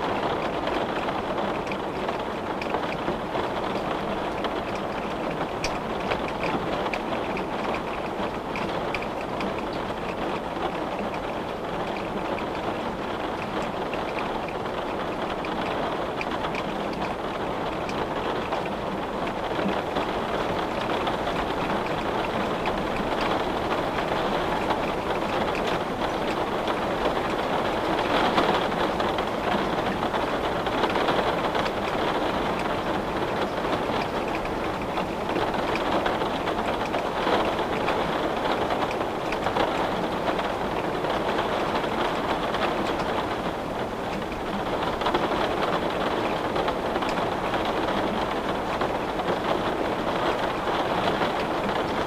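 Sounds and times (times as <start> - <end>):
rain on a window: 0.0 - 52.0.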